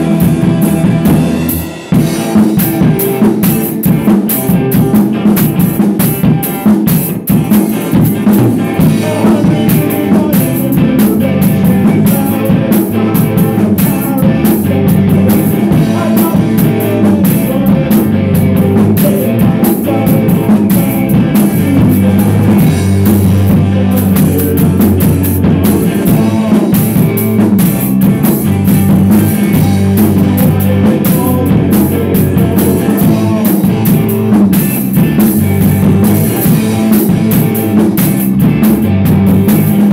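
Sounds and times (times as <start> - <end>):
drum kit with cymbals: 0.0 - 39.9
rock band playing live: 0.0 - 39.9.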